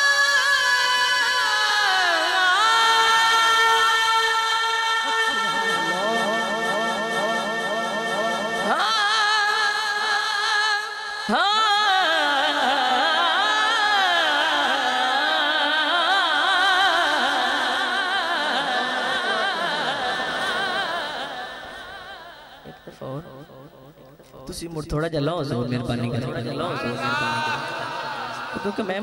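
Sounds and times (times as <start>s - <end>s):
man singing into microphone: 0.0s - 24.6s, 25.4s - 29.0s.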